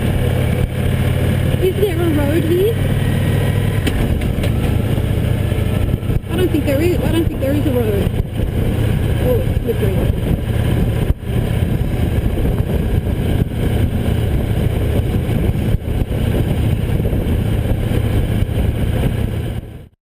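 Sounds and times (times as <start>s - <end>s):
motorcycle engine running: 0.0s - 19.9s
wind noise: 0.0s - 19.9s
road noise: 0.0s - 20.0s.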